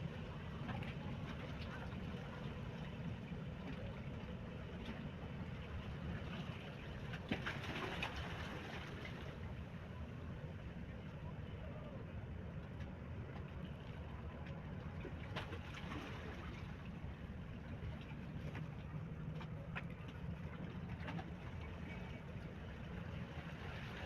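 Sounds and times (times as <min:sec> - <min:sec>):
water and wind noise: 0:00.0 - 0:24.0.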